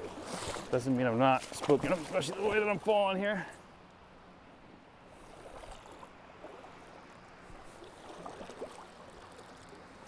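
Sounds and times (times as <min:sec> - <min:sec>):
water splashes and trickles: 0:00.0 - 0:10.0.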